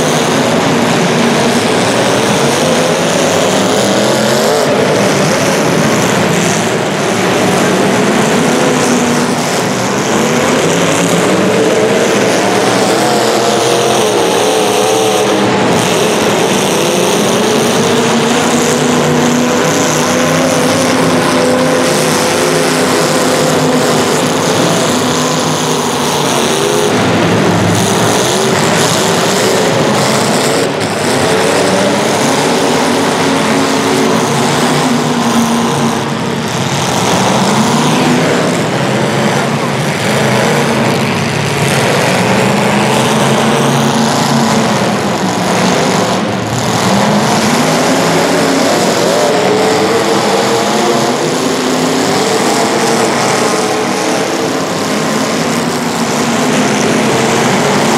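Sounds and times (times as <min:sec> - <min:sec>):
racing engines roaring: 0:00.0 - 0:57.9.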